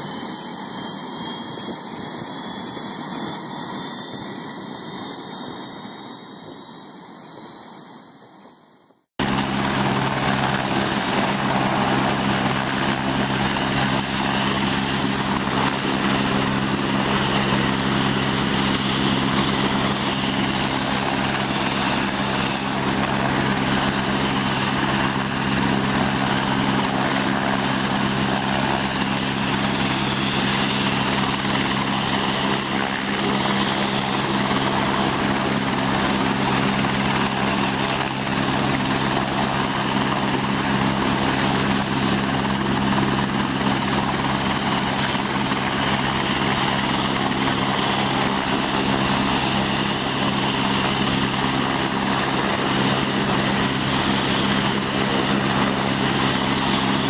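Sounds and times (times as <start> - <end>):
helicopter turbine whine and rotor: 0.0 - 57.0.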